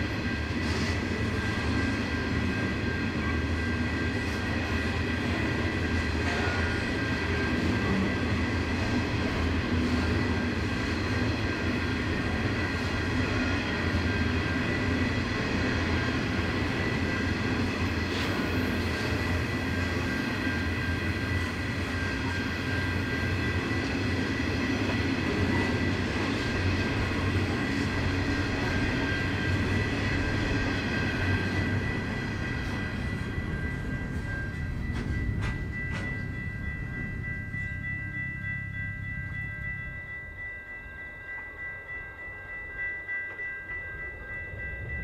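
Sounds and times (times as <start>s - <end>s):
train engine rumble: 0.0s - 45.0s.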